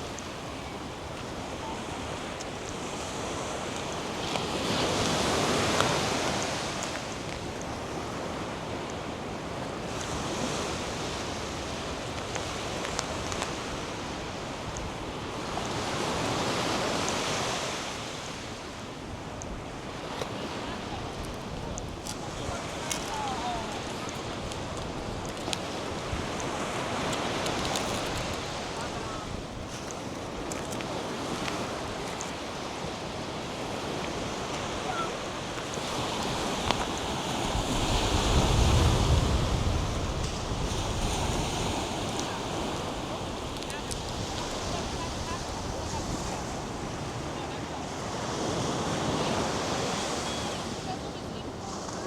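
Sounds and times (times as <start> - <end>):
wind on microphone: 0.0 - 50.7
surf on sandy beach: 0.0 - 52.0.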